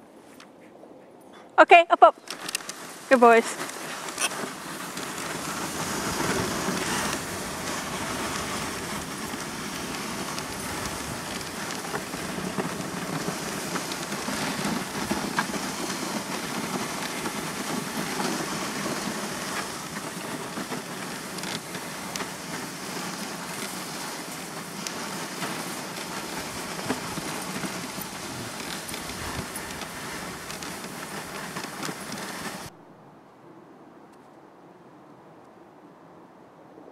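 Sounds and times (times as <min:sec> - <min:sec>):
sled runners sliding over snow: 0:02.0 - 0:32.7.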